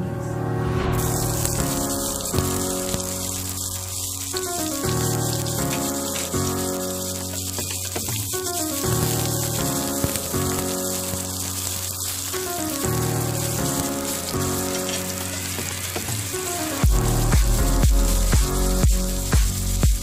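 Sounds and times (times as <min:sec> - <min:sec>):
background music: 0:00.0 - 0:20.0
onions sizzling in oil: 0:01.0 - 0:20.0.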